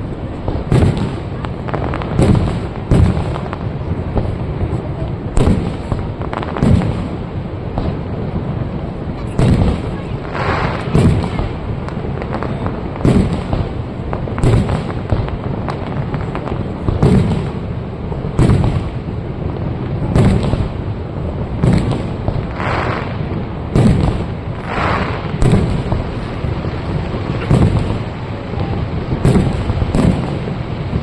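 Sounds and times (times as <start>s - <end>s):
firework shells booming: 0.0s - 31.0s
rumbling echo: 0.0s - 31.0s.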